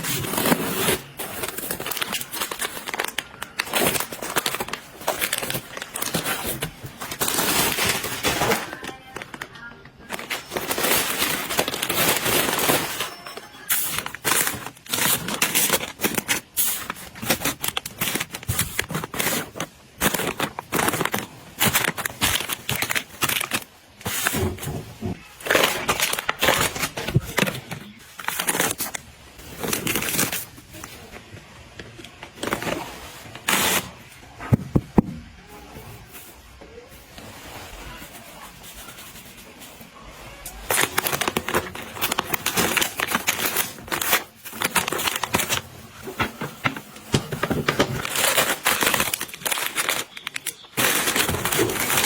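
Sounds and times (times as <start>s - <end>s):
plastic packaging crinkling: 0.0s - 34.3s, 35.4s - 52.0s.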